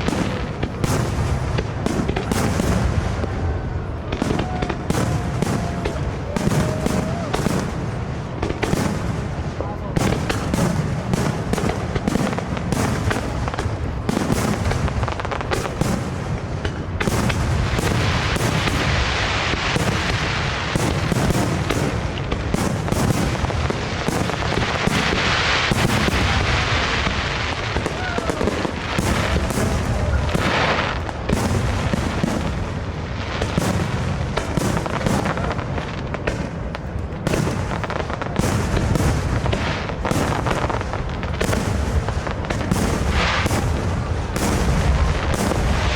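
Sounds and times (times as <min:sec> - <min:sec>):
firework bursts booming: 0:00.0 - 0:45.9.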